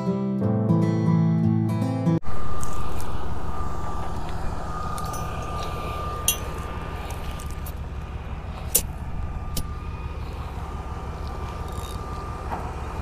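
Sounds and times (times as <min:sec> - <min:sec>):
engine low drone with whine: 0:02.2 - 0:13.0.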